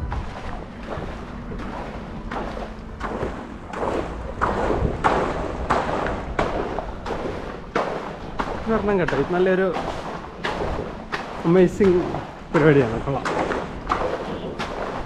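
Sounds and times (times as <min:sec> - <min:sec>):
footsteps with dull thuds: 0:00.0 - 0:15.0.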